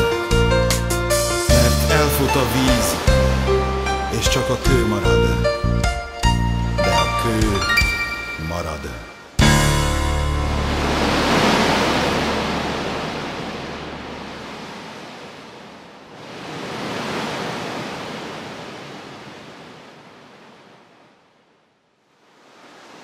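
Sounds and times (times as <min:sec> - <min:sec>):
rushing waves noise: 0:01.1 - 0:05.3, 0:06.8 - 0:21.4, 0:22.0 - 0:23.0.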